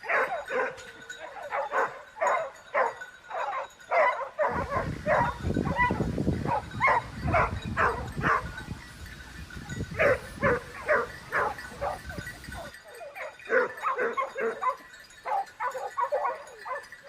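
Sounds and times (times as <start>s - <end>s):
dog barking: 0.0s - 8.6s, 10.0s - 12.1s, 13.1s - 17.0s.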